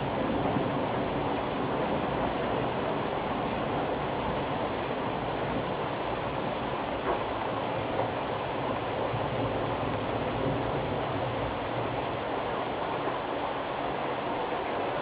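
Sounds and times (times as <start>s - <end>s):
rushing rain: 0.0s - 15.0s.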